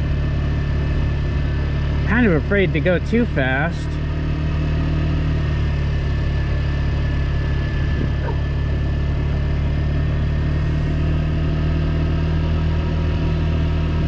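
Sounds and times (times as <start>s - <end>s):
small motorbike engine running: 0.0s - 14.0s.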